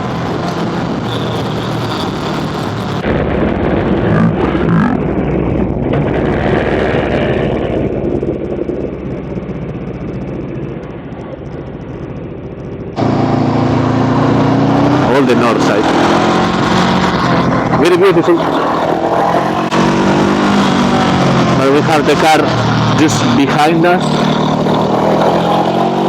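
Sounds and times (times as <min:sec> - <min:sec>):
scooter engine running: 0:00.0 - 0:26.0
wind rush on microphone: 0:00.0 - 0:26.0.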